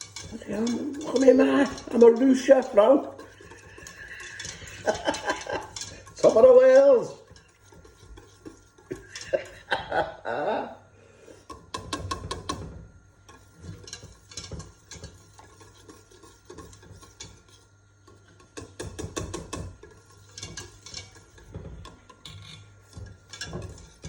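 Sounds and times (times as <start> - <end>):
spoon clinking against pot: 0.0 - 10.0, 11.5 - 24.0
spoon stirring and scraping pot: 0.0 - 10.2, 11.1 - 24.0.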